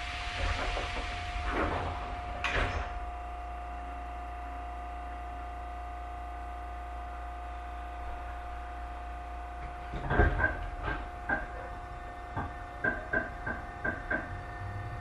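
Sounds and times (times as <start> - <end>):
electrical hum with steady tone: 0.0 - 15.0.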